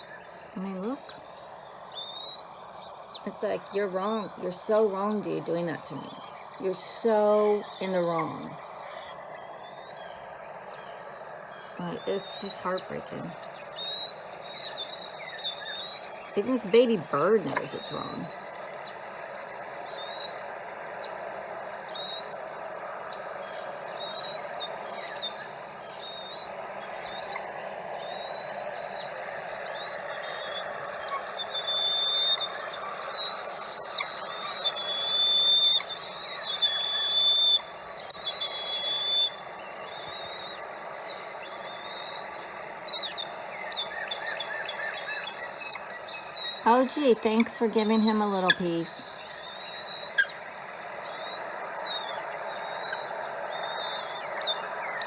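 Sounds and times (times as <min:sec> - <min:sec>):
eagles chirping calls: 0:00.0 - 0:55.0
steady background hiss: 0:00.0 - 0:55.0.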